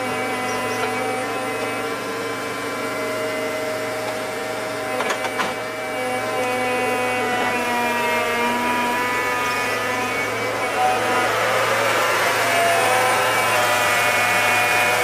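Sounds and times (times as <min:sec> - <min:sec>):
motor running with a whine: 0:00.0 - 0:15.0.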